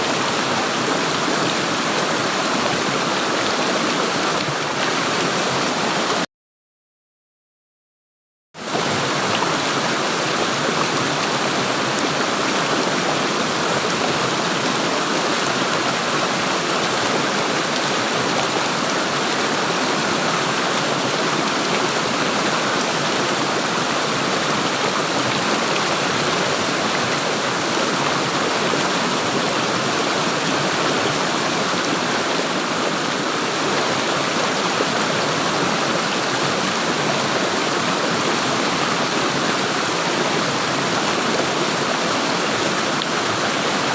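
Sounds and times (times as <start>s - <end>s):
stream water flowing: 0.0s - 6.2s, 8.6s - 43.9s.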